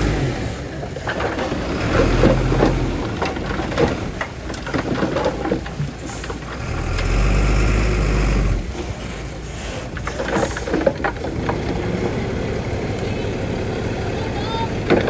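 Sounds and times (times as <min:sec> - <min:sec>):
heavy machine diesel engine running: 0:00.0 - 0:15.0.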